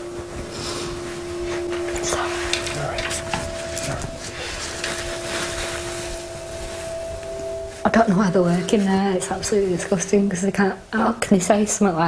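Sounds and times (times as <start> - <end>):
soft music drone: 0.0 - 12.0.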